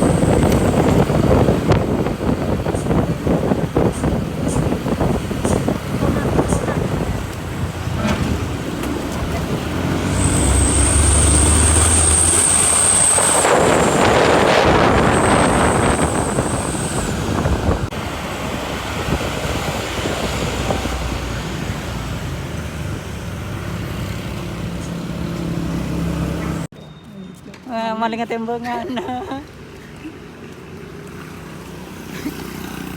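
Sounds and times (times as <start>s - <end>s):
vehicle engine droning: 0.0s - 26.7s.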